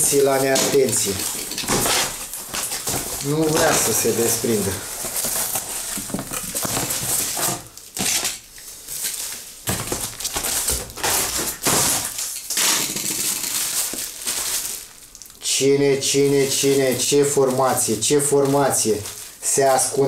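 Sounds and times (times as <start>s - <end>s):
packaging rustling and crinkling: 0.0s - 20.0s
wrapper tearing: 0.0s - 20.0s.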